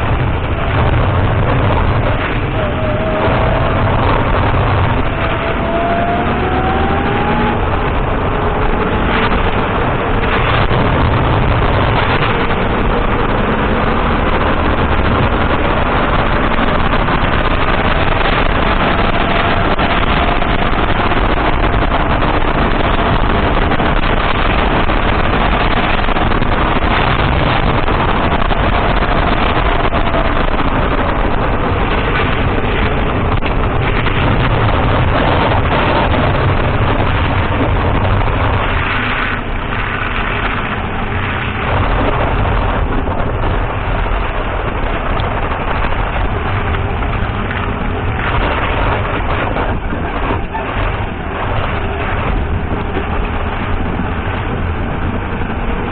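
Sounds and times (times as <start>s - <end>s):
car engine running: 0.0s - 55.9s
road and tyre noise: 0.0s - 55.9s.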